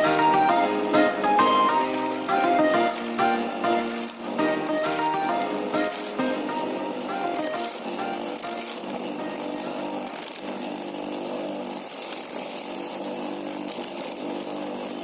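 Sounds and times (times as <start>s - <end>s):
corn sheller motor rattling and humming: 0.0s - 15.0s.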